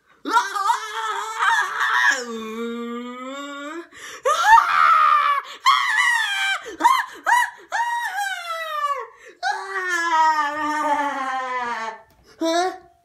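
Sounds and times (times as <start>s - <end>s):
high-pitched cartoon voice screaming: 0.3s - 3.5s, 4.4s - 12.9s.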